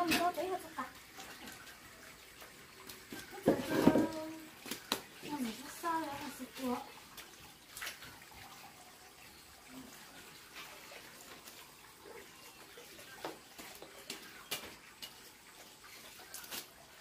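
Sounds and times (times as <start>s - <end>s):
water running from hose into basin: 0.0s - 17.0s
water splashing: 0.0s - 17.0s.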